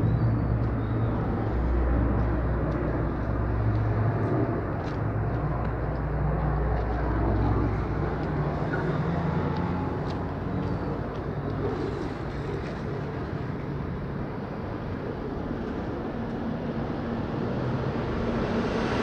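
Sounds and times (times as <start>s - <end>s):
aircraft engines droning overhead: 0.0s - 19.0s.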